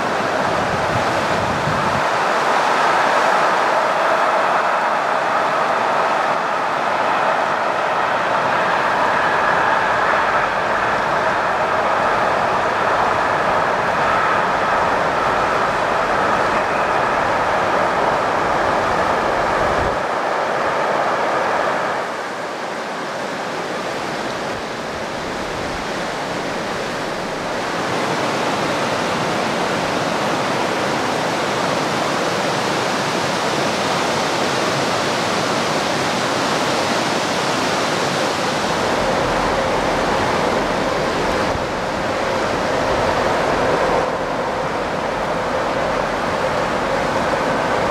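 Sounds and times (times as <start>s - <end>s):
freight train crossing bridge: 0.0s - 47.9s
river rapids rushing: 0.0s - 47.9s.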